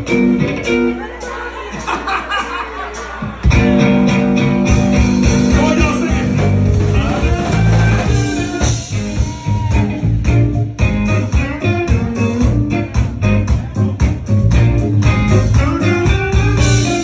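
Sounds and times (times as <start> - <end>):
electric guitar: 0.0 - 1.3, 3.4 - 17.0
drums: 0.0 - 17.0
keyboards: 0.0 - 17.0
low bass notes: 3.2 - 17.0.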